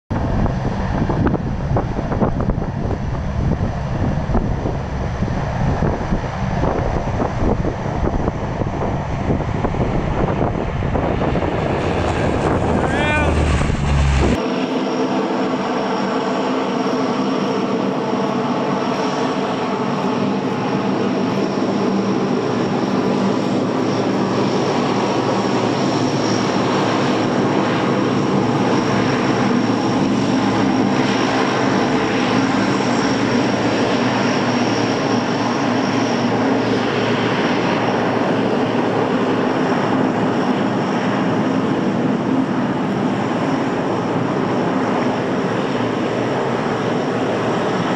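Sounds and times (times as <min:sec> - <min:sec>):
turboprop engines running: 0:00.1 - 0:47.9.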